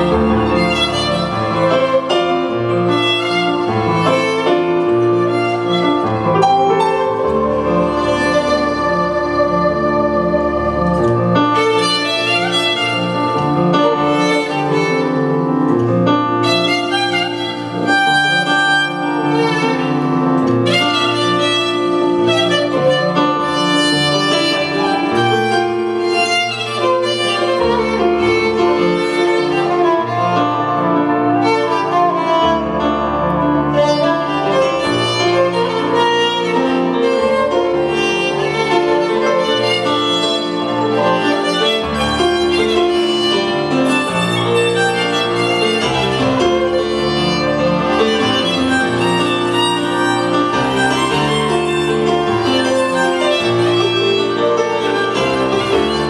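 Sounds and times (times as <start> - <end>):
bowed fiddle melody: 0.0 - 56.0.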